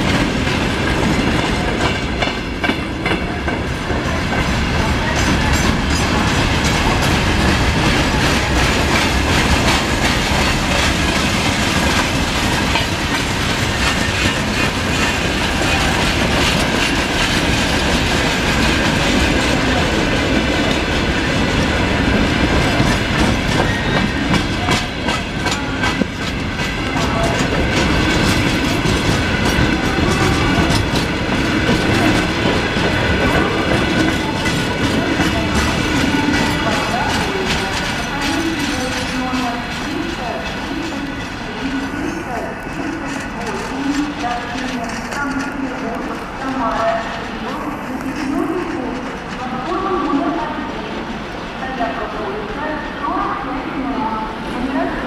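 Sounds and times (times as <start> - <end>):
freight train wagons rumbling: 0.0 - 55.0.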